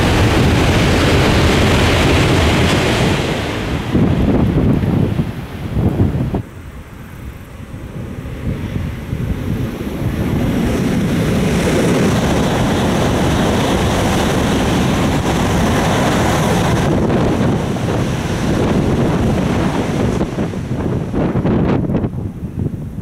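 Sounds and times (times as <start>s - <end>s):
train passing at high speed: 0.0s - 23.0s
wind buffeting microphone: 0.0s - 23.0s.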